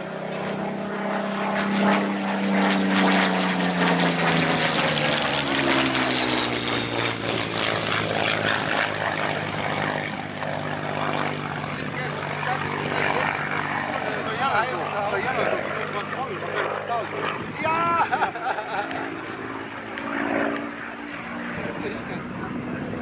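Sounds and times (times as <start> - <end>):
propeller plane engine flying past: 0.0 - 23.0.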